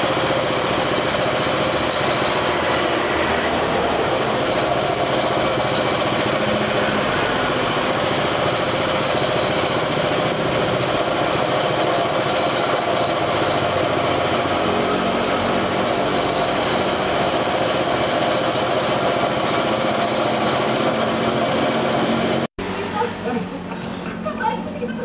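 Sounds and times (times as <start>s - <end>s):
air compressor motor running: 0.0s - 24.3s.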